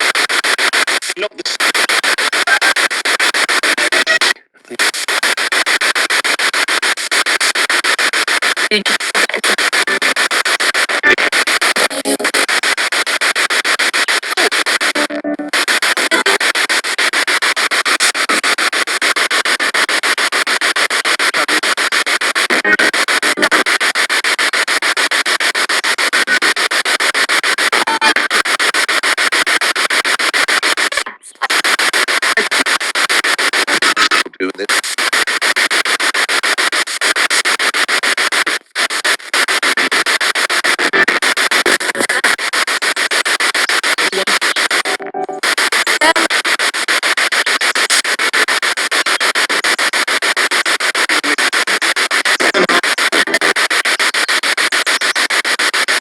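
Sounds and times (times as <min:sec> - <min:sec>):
radio sweeping static pulses: 0:00.0 - 0:56.0.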